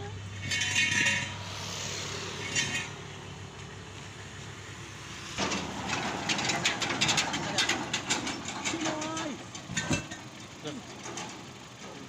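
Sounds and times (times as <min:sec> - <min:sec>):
low steady rumble: 0:00.0 - 0:12.0
tire knocking and scraping on rim: 0:00.0 - 0:12.0.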